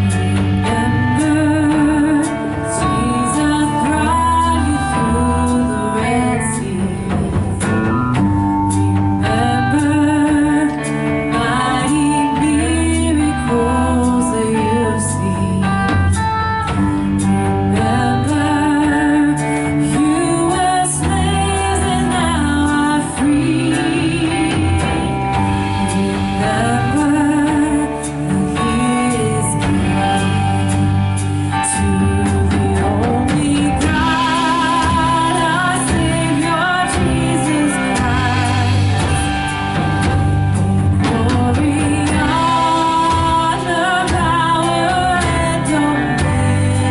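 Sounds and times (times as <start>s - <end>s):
person singing: 0.0s - 46.9s
worship band playing: 0.0s - 46.9s.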